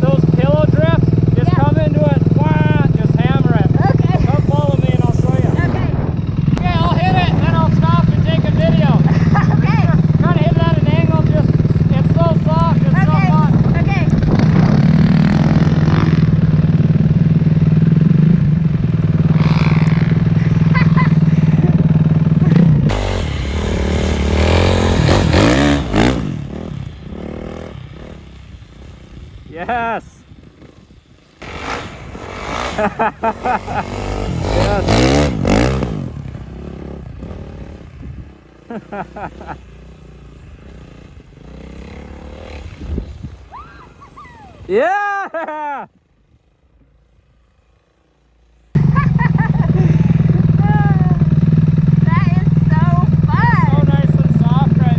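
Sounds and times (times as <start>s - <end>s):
dirt bike engine running: 0.0s - 43.6s, 44.6s - 54.9s.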